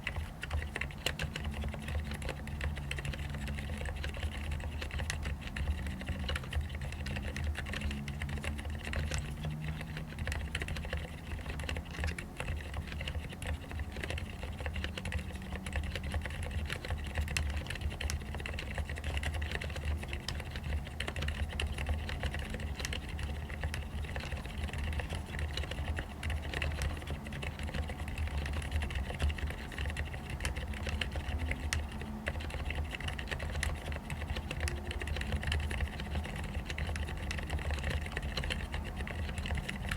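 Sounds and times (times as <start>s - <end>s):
fast typing on a keyboard: 0.0s - 39.9s
steady low hum: 0.0s - 39.9s.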